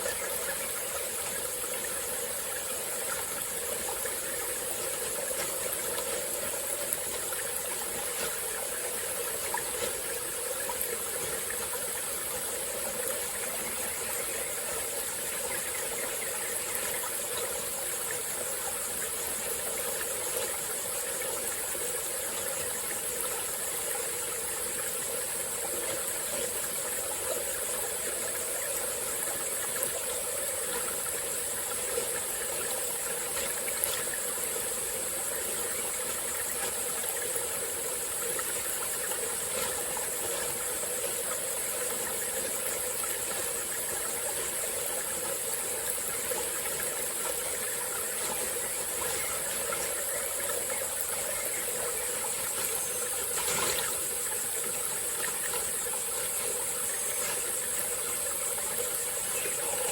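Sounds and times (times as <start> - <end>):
forest stream trickling: 0.0 - 59.9
high-pitched insect chorus: 0.0 - 59.9.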